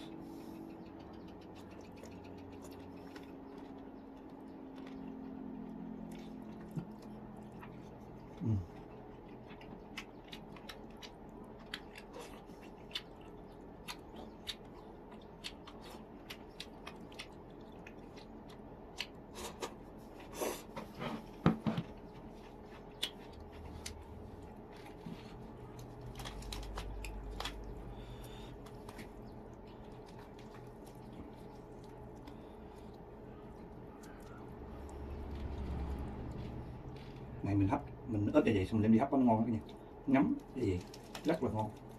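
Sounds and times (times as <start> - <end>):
person chewing food: 0.0 - 37.4, 39.6 - 41.9.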